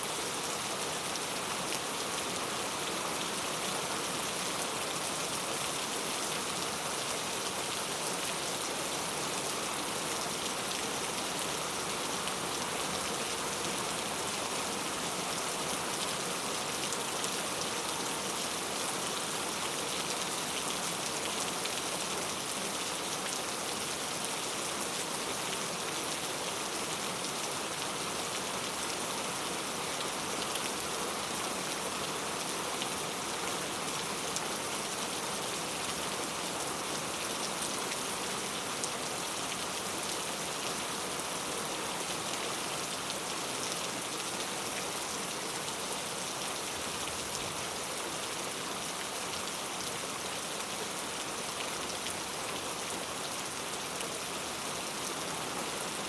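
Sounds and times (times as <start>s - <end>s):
heavy rain on hard surfaces: 0.0s - 56.0s.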